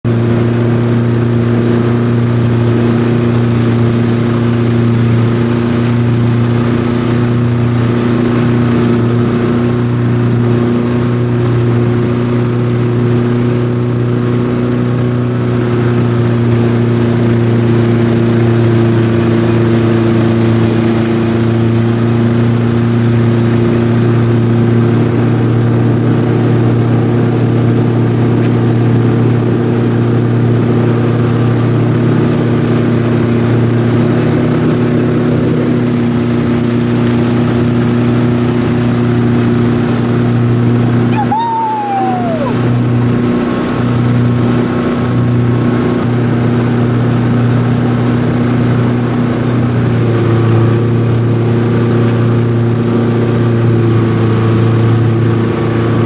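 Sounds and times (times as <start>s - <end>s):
water rushing from wake: 0.0s - 56.0s
boat engine low drone: 0.1s - 56.0s.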